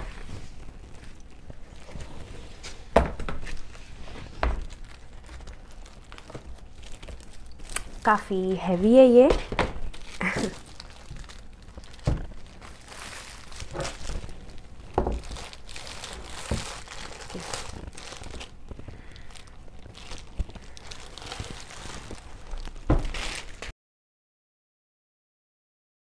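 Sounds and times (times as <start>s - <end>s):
plastic sleeve crinkling: 0.0s - 23.7s.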